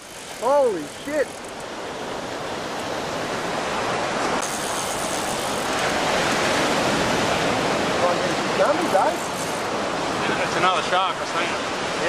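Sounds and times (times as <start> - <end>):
sea surf washing: 0.0 - 12.0.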